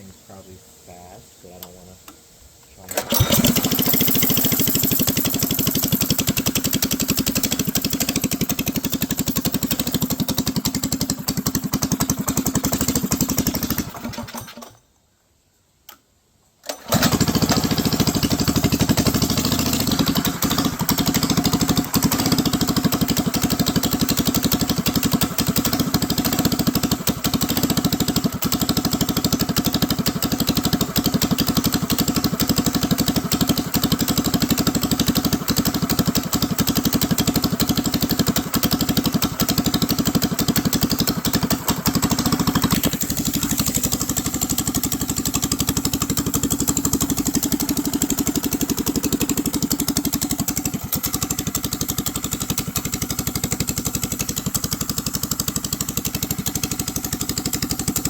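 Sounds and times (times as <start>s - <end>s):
small engine running: 2.9s - 14.8s, 16.7s - 58.0s.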